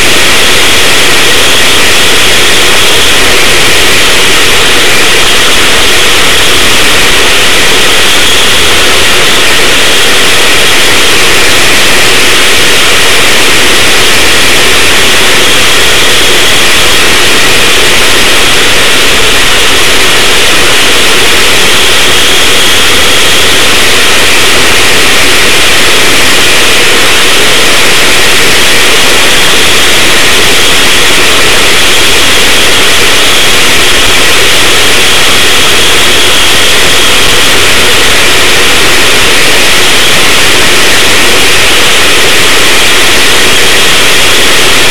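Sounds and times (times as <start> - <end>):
go-kart engine running distorted: 0.0 - 44.9.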